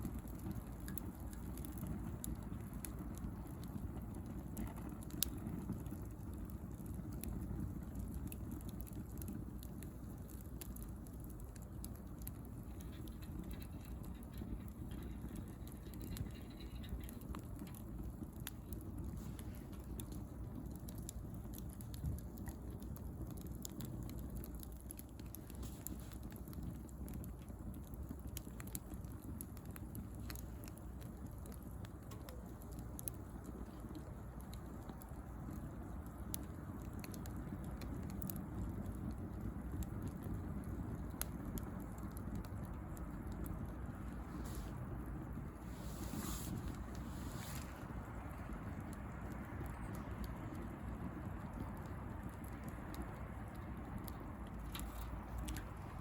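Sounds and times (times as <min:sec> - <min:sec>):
bonfire flames rumbling: 0:00.0 - 0:56.0
fire crackling and popping: 0:00.0 - 0:56.0.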